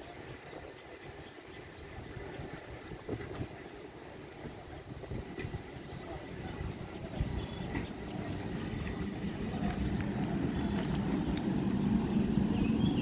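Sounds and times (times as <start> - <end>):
train wheels rumbling on rails: 1.8 - 13.0.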